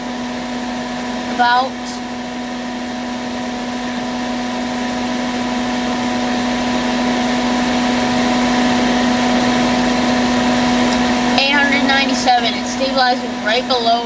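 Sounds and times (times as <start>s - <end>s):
space heater fan humming: 0.0s - 14.0s.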